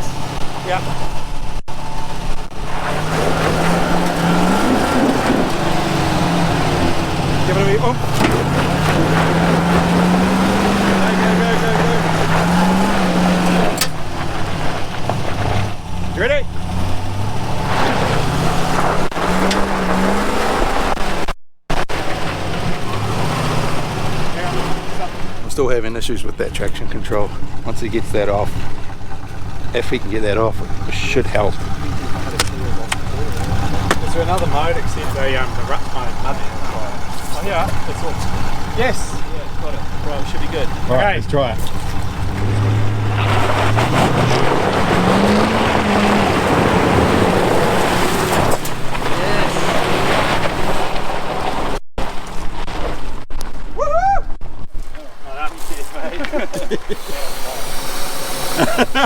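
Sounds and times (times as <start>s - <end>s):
wheels churning mud and water: 0.0s - 53.7s, 54.7s - 59.0s
vehicle engines running under load: 0.0s - 53.8s, 54.4s - 59.0s.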